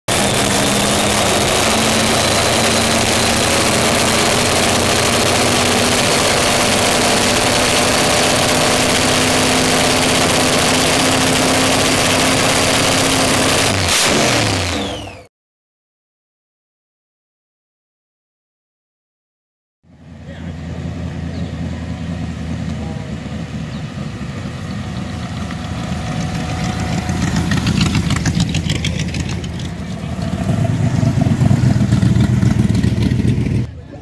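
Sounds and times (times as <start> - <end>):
car engine idling: 0.1 - 13.7, 19.9 - 34.0.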